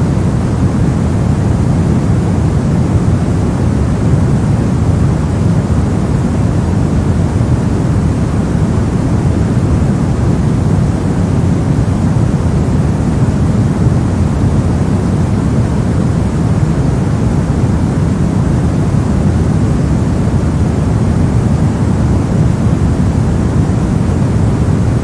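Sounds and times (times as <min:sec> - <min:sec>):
deep white noise hiss: 0:00.0 - 0:25.0.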